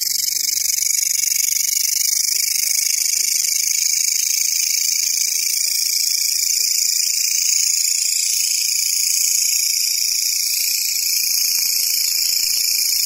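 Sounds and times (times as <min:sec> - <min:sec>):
grasshoppers stridulating: 0:00.0 - 0:13.0.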